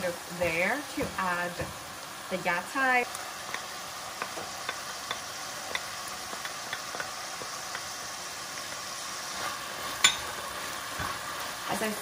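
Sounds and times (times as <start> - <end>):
pork sizzling in pan: 0.0 - 12.0.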